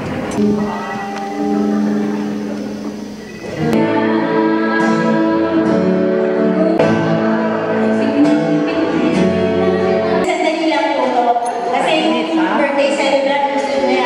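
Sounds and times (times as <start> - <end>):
guitar-led background music: 0.3 - 14.0.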